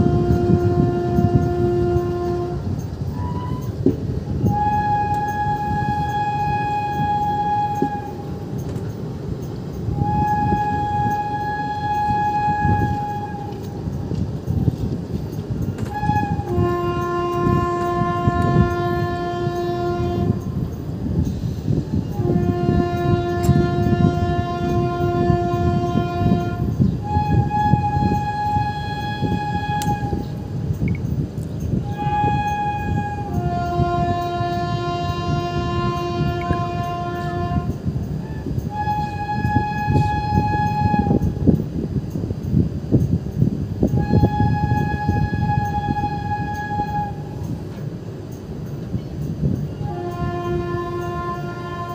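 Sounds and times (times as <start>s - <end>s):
train horn blasts: 0.0s - 42.8s, 43.4s - 47.8s, 49.2s - 51.9s
train rumble and wheel clatter: 0.0s - 51.9s.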